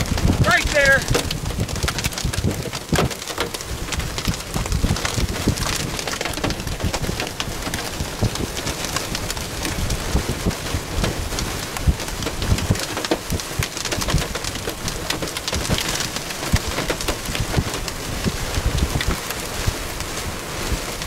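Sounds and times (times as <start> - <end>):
low rumble of gusts: 0.0 - 21.0
rain falling: 0.0 - 21.0.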